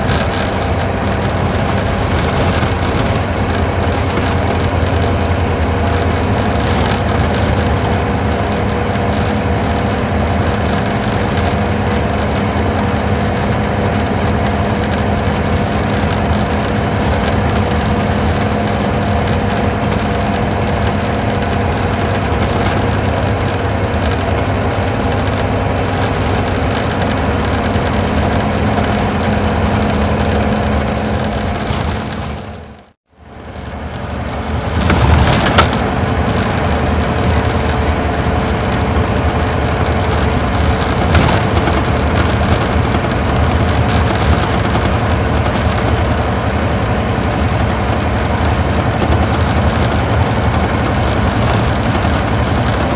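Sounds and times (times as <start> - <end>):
diesel engine running: 0.0 - 52.9
tyre and road noise: 0.0 - 52.9.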